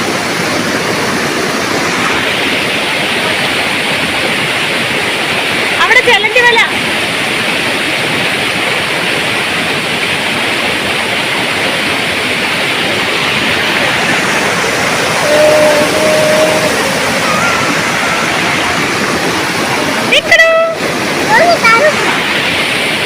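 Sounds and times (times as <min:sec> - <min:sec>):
rush of flowing water: 0:00.0 - 0:23.0.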